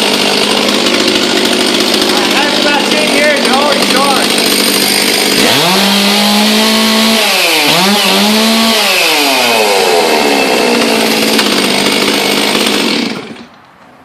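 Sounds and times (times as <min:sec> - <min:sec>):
chainsaw running at high revs: 0:00.0 - 0:13.6.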